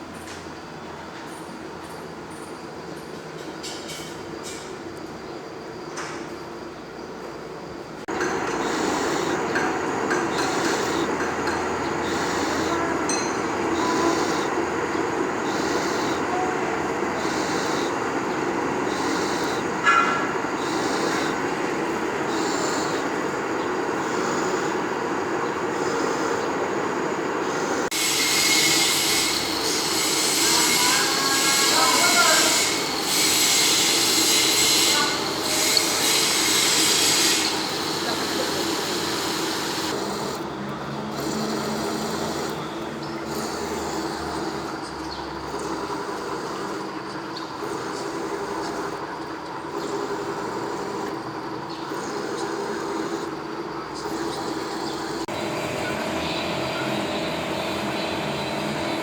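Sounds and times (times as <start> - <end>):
workshop machinery with pulsing hiss: 0.0 - 59.0.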